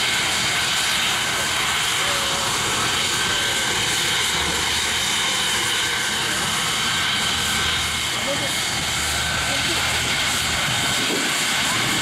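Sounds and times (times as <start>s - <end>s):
jet engine idling whine: 0.0s - 12.0s.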